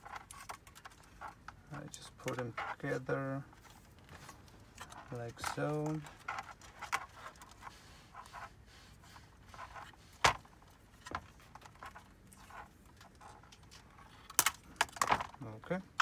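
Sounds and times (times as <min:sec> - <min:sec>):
handling cables and plastic parts: 0:00.0 - 0:16.0.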